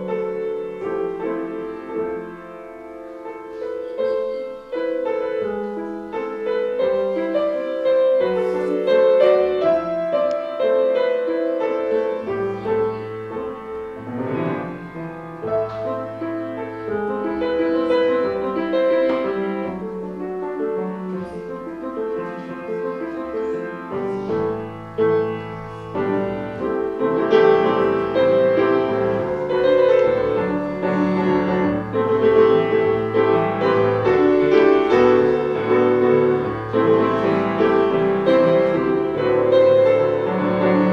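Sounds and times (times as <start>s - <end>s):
slow piano piece: 0.0s - 40.9s.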